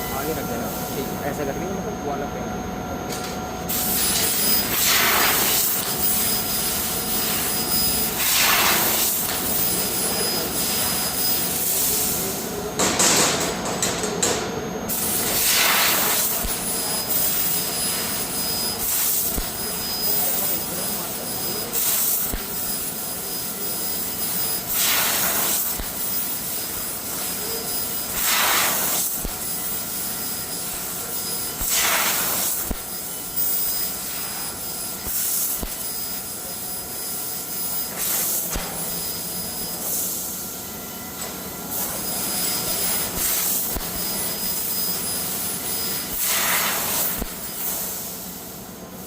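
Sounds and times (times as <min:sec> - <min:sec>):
faint machine hum: 0:00.0 - 0:49.0
laser cutter hissing: 0:00.0 - 0:49.0.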